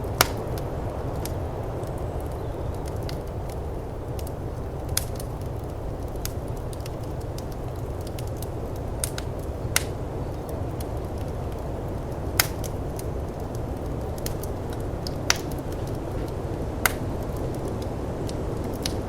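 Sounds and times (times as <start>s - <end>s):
low rumble of storm wind: 0.0s - 19.0s
wood fire crackling and popping: 0.0s - 19.0s.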